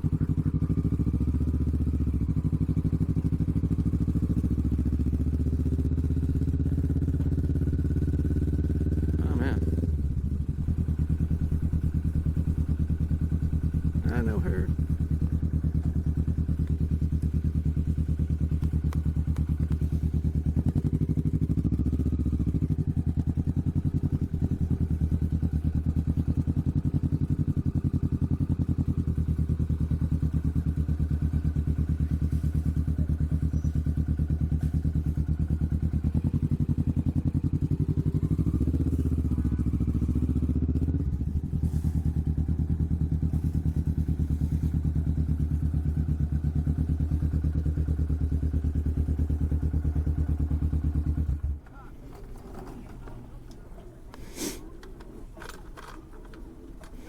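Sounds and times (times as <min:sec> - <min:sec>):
motorcycle exhaust note: 0:00.0 - 0:57.0.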